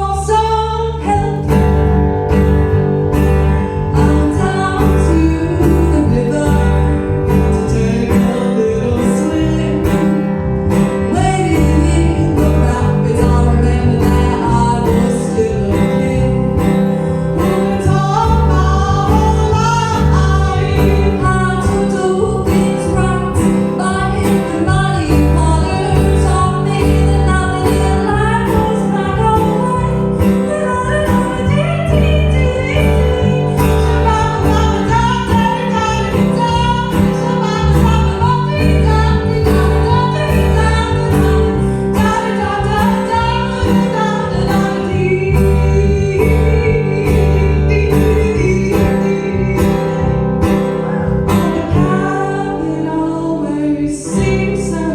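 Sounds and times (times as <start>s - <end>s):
acoustic guitar: 0.0s - 54.9s
woman singing: 0.0s - 54.9s.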